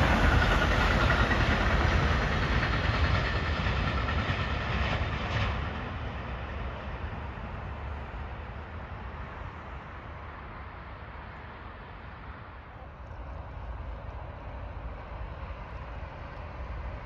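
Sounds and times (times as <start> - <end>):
distant freight train rumbling: 0.0 - 17.0.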